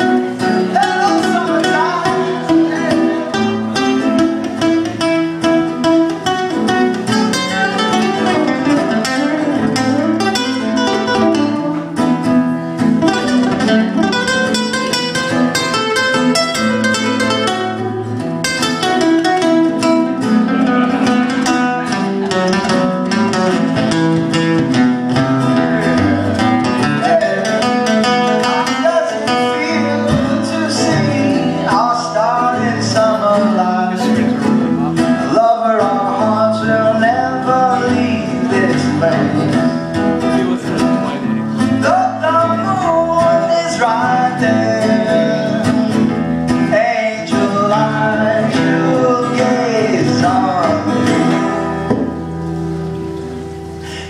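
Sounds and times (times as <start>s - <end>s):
acoustic guitars playing: 0.0s - 54.0s.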